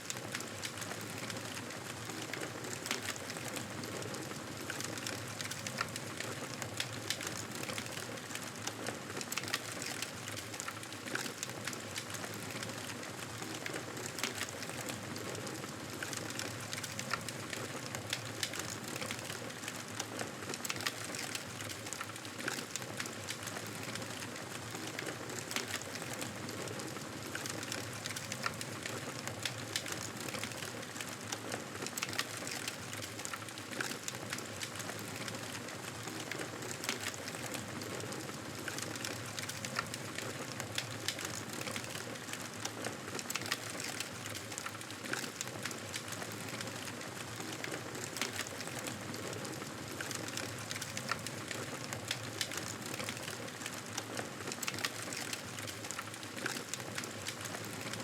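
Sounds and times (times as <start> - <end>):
burning wood crackling and popping: 0.1 - 58.0.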